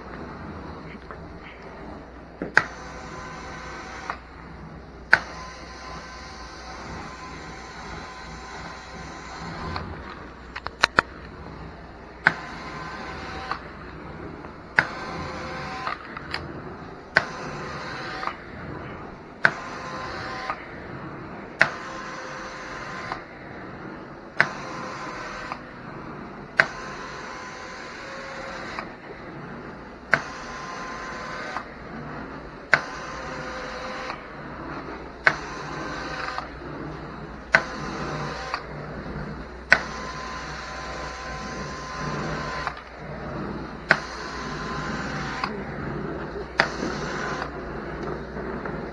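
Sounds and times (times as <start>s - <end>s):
vacuum motor drone: 0.0s - 48.9s.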